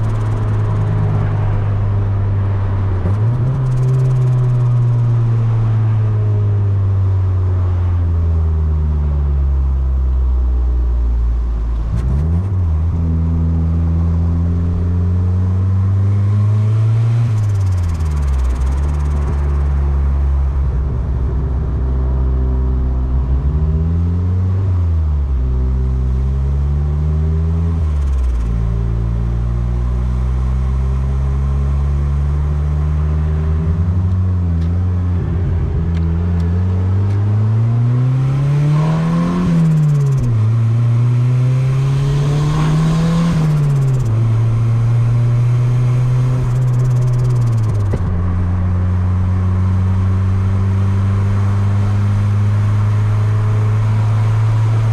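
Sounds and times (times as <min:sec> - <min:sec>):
car engine revving: 0:00.0 - 0:08.5, 0:11.6 - 0:54.9.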